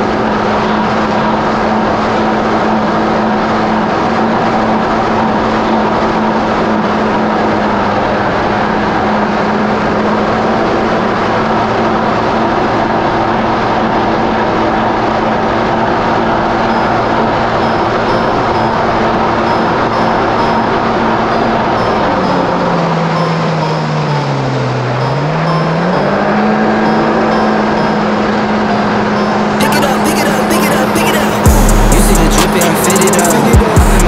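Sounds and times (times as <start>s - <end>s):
jet ski engine drone: 0.0s - 34.0s.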